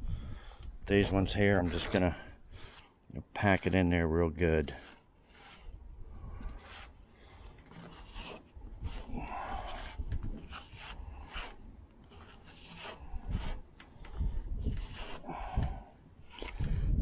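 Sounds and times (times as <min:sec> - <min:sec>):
filler spreader scraping on metal: 0:00.3 - 0:16.9.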